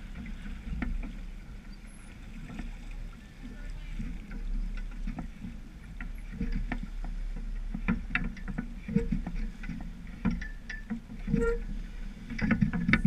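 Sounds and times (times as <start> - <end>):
water slapping against hull: 0.0 - 13.0
wind rumble on microphone: 0.0 - 13.0.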